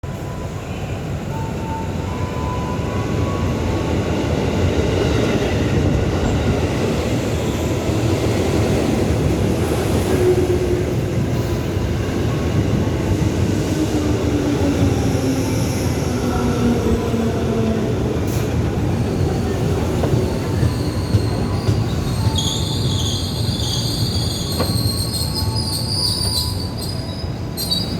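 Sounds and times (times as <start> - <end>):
electric train rumbling: 0.1 - 27.9.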